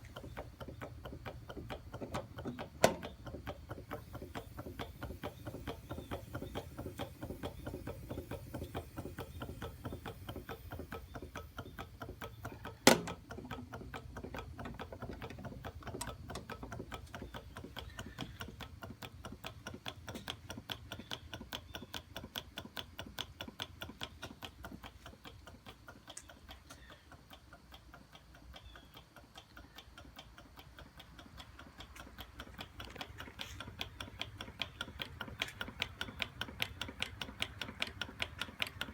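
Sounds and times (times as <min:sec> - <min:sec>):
hot-air engine clicking: 0:00.0 - 0:38.9.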